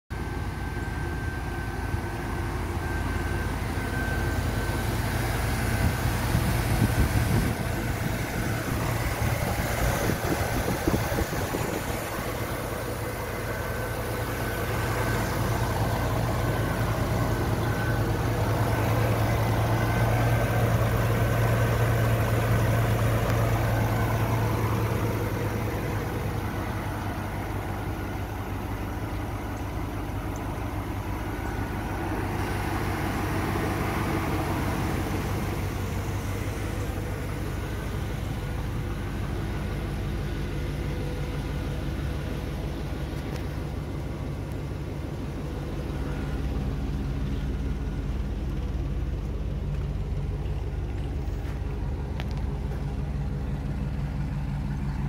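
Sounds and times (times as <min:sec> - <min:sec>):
truck engine idling: 0:00.1 - 0:55.0.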